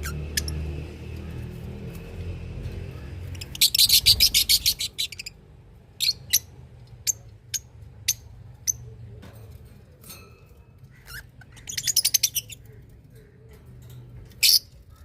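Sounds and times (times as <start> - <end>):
small birds chirping: 0.0 - 9.2, 10.6 - 15.0.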